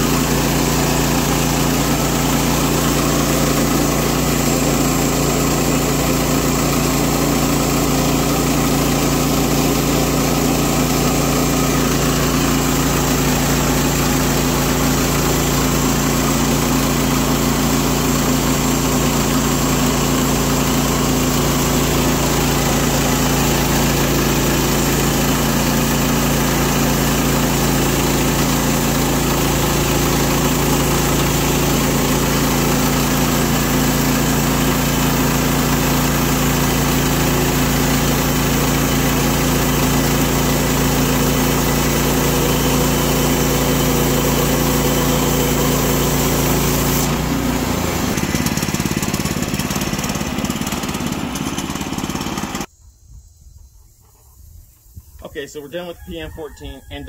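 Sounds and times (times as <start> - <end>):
band saw blade cutting wood: 0.0 - 52.7
gas engine running under load: 0.0 - 52.7.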